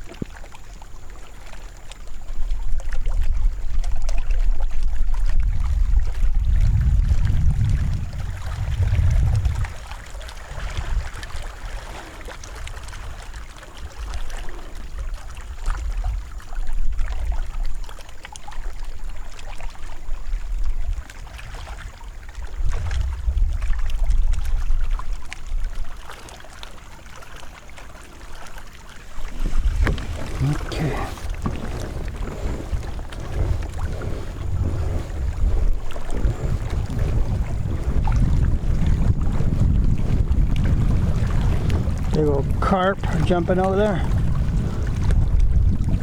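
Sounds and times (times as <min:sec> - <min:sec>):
water lapping against kayak hull: 0:00.0 - 0:46.0
wind buffeting microphone: 0:02.1 - 0:17.9, 0:19.8 - 0:26.1, 0:28.3 - 0:46.0.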